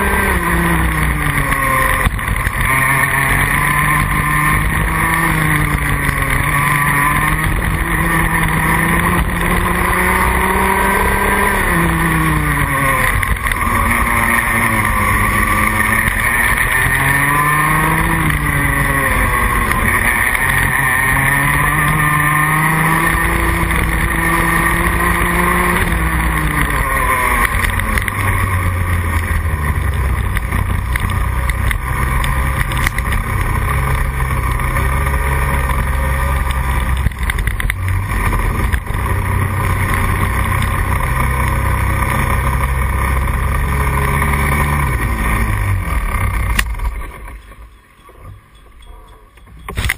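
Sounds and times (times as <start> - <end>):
kart engine revving: 0.0 - 49.9.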